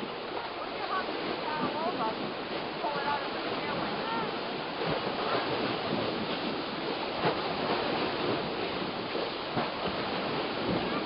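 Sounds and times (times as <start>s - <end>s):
waves splashing: 0.0s - 11.0s
wind: 0.0s - 11.0s.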